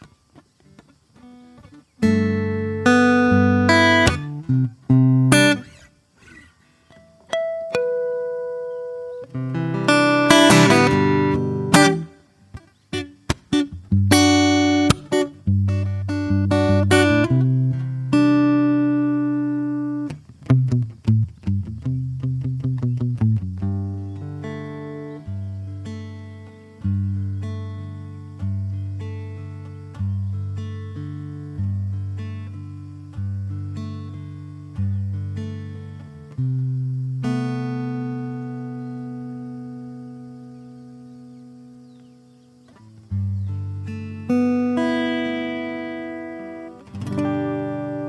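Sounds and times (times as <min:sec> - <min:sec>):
solo acoustic guitar: 0:00.0 - 0:48.0.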